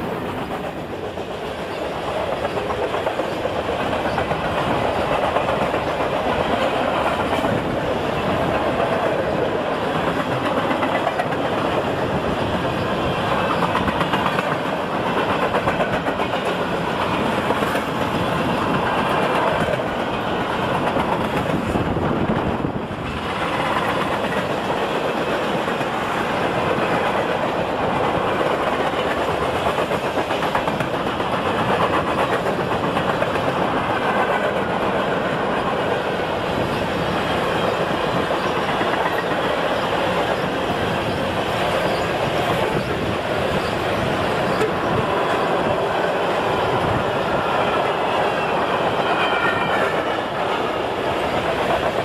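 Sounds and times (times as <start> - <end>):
freight train rolling past: 0.0 - 52.0
train wheels clattering over rails: 0.0 - 52.0.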